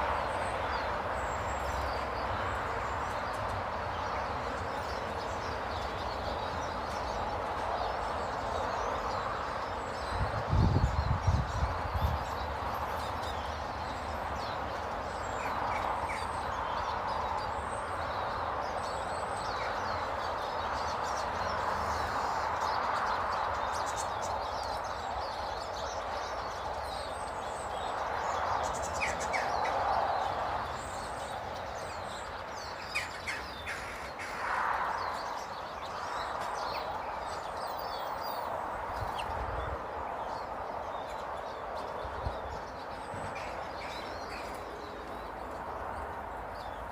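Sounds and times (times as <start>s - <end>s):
small birds chirping: 0.0s - 46.9s
steady background noise: 0.0s - 46.9s.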